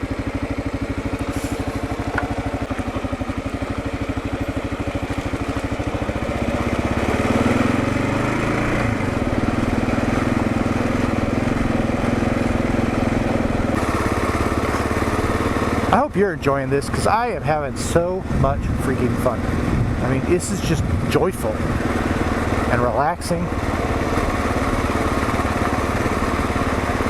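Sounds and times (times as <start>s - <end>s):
motorcycle engine pulsing: 0.0s - 27.0s.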